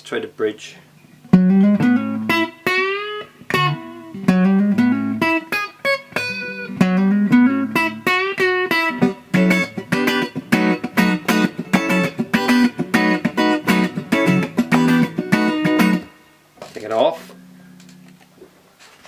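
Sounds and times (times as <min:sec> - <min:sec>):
clean electric guitar riff: 0:01.2 - 0:16.4, 0:17.1 - 0:18.5.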